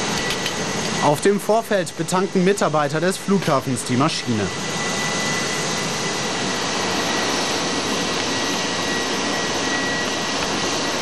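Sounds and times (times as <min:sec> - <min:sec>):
high steady whine: 0:00.0 - 0:11.0.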